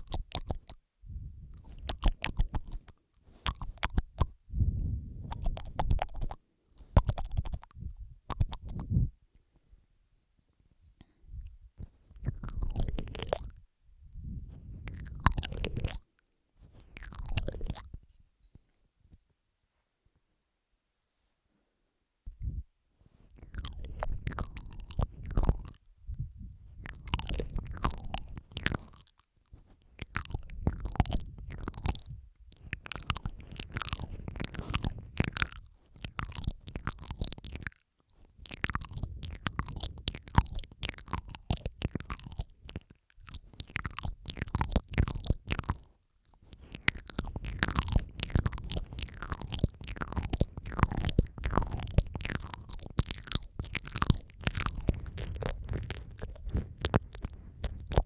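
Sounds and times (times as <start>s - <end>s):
wet mouth clicking and smacking: 0.0s - 0.8s, 1.4s - 9.1s, 11.0s - 18.1s, 23.2s - 58.0s.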